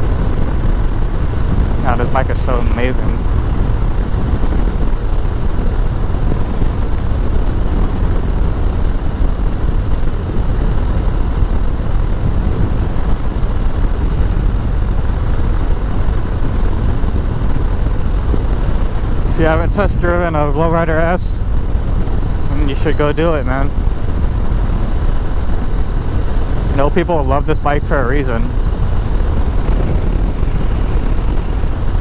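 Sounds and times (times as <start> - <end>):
motorcycle engine cruising: 0.0 - 32.0
wind and road noise: 0.0 - 32.0.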